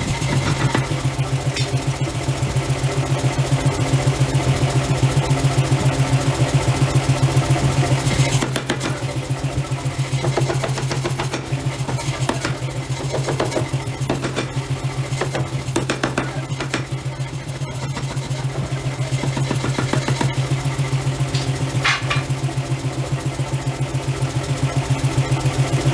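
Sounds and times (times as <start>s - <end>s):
forging machinery pulsing hum: 0.0s - 25.9s.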